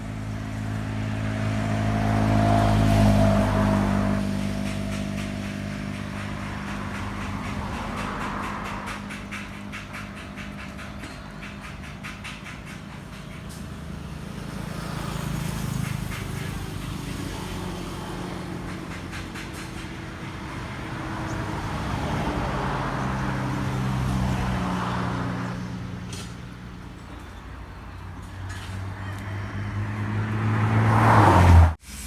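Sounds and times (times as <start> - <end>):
vehicles passing on road: 0.0 - 32.0.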